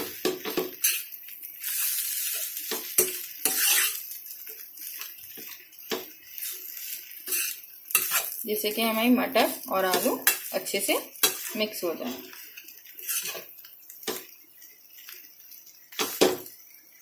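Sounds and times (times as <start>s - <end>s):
light sizzle: 0.0s - 17.0s.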